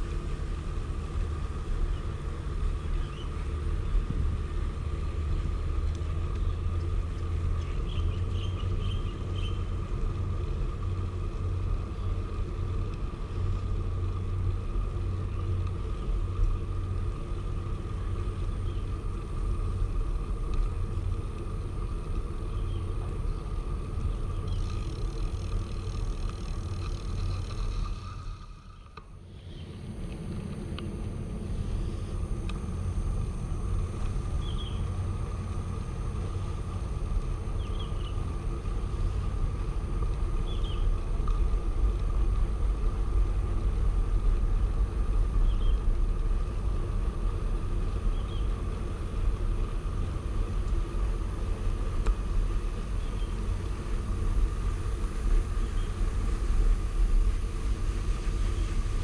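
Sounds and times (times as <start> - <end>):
bicycle tyres on pavement: 0.0 - 59.0.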